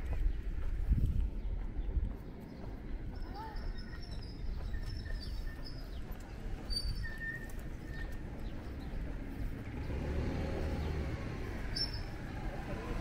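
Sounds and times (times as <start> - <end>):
footsteps on pavement: 0.0 - 13.0.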